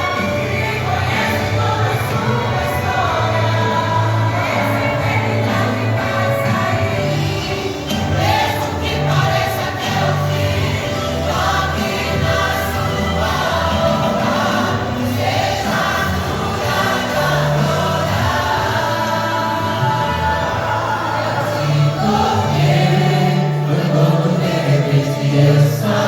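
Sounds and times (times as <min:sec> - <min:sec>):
vocal group singing a hymn: 0:00.0 - 0:26.0.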